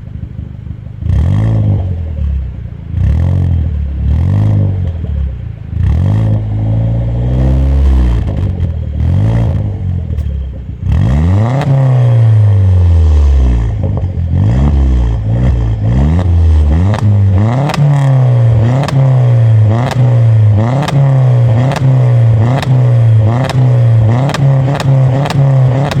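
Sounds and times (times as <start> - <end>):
car engine revving: 0.0 - 26.0
exhaust cracks: 0.0 - 26.0.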